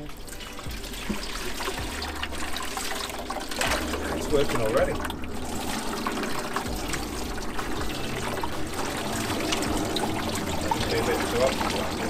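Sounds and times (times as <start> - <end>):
water pouring into a drum: 0.0 - 12.0.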